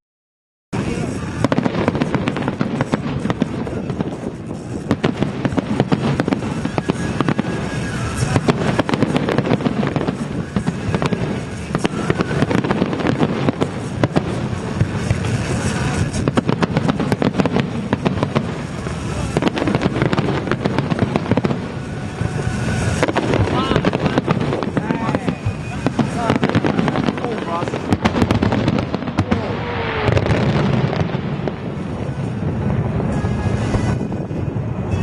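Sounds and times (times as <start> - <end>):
firework shell bursts and crackling: 0.8 - 35.0.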